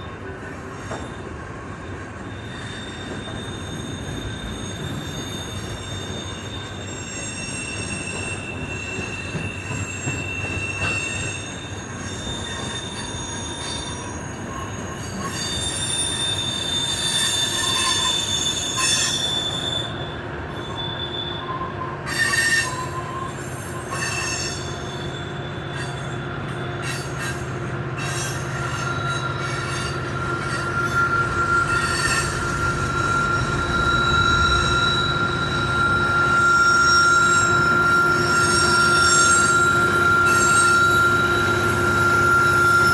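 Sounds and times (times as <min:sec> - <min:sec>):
low rumble of train: 0:00.0 - 0:42.9
train wheels squealing: 0:00.0 - 0:42.9.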